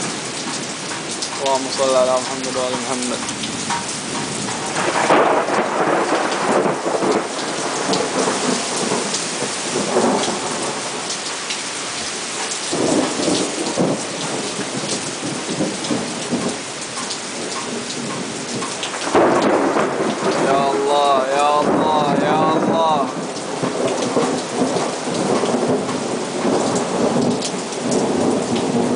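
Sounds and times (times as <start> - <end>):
thunder rumbling: 0.0 - 11.5, 12.4 - 28.9
heavy rain downpour: 0.0 - 28.9.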